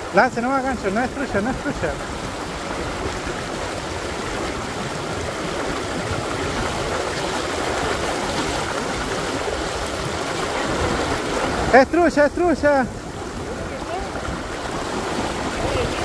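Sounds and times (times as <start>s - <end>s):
river current rushing: 0.0s - 16.0s.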